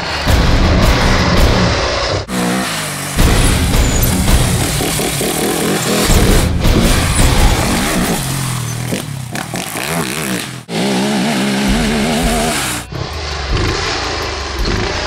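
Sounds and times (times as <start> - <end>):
quad engine revving: 2.0 - 15.0.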